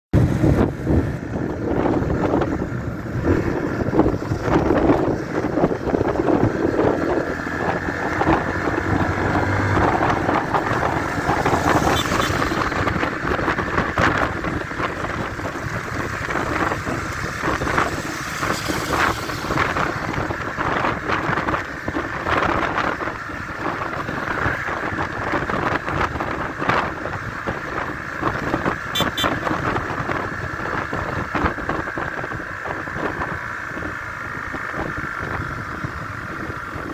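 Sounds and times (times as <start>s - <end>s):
wind noise on microphone: 0.1s - 36.9s
motorcycle engines running: 0.2s - 36.9s.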